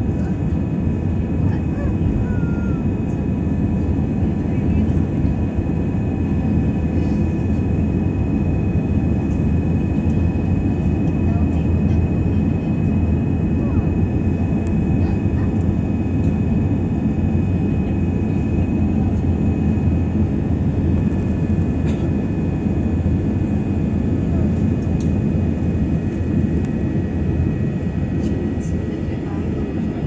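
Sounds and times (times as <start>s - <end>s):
engine whine: 0.0s - 30.0s
jet engine cabin rumble: 0.0s - 30.0s.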